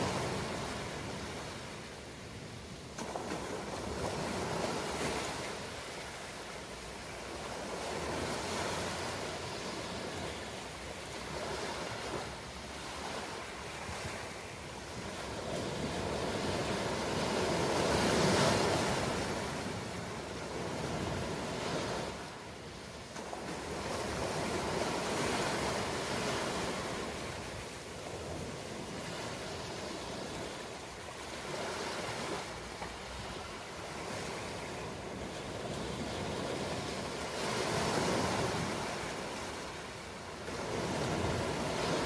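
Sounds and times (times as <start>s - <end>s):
ocean waves breaking: 0.0s - 42.0s.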